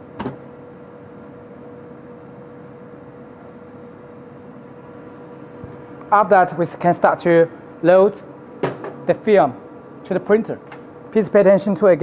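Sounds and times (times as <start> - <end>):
machine hum with faint whine: 0.0 - 12.0.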